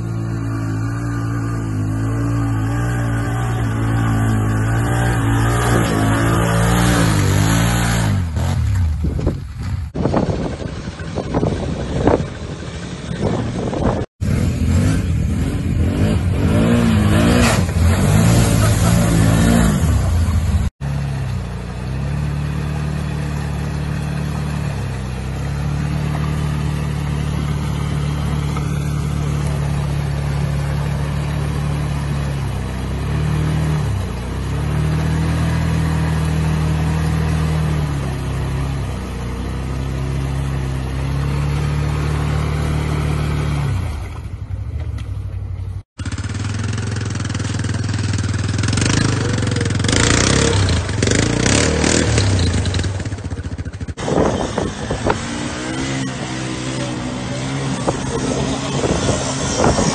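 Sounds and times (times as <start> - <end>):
vehicle engine revving: 0.0 - 44.6, 46.0 - 59.9
atv engine running: 0.0 - 59.9.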